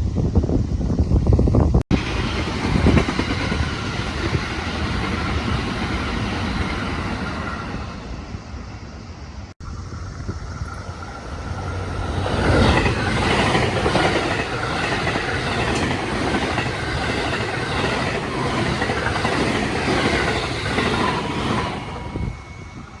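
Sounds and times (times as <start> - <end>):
electric train passing: 0.2 - 23.0.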